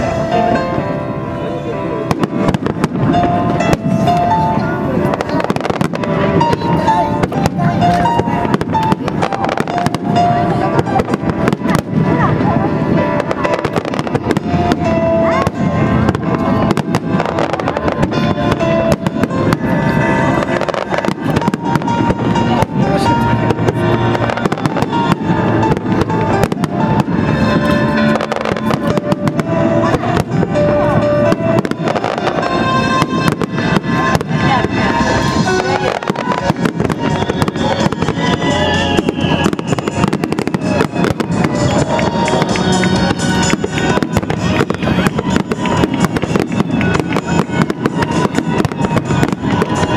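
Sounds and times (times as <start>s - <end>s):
fireworks bursting and crackling: 0.0s - 49.9s
music with steady tones: 0.0s - 49.9s.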